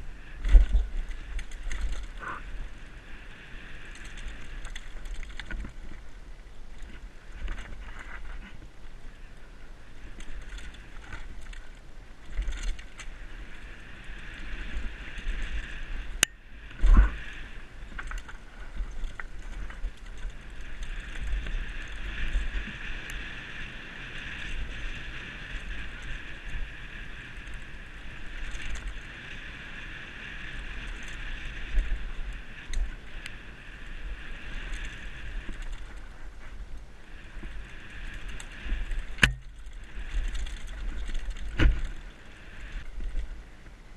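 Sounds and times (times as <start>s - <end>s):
bike rattling over rough ground: 0.0s - 43.9s
wind rumble on camera: 0.0s - 43.9s.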